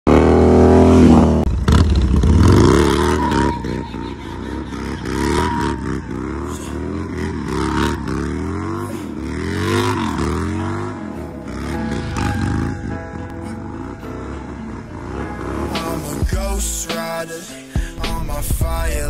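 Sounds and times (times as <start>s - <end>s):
motorcycle engine revving: 0.1s - 16.8s.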